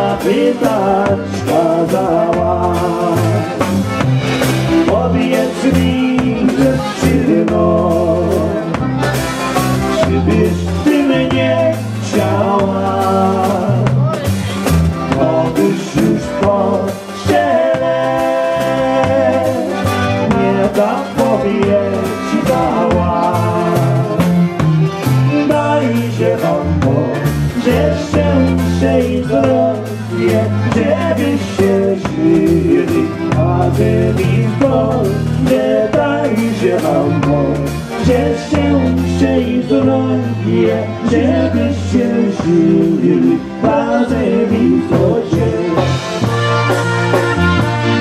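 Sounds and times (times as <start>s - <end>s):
man singing: 0.0s - 4.0s, 4.6s - 9.2s, 9.8s - 46.4s, 47.3s - 48.0s
drum kit: 0.0s - 48.0s
low bass line: 0.0s - 48.0s.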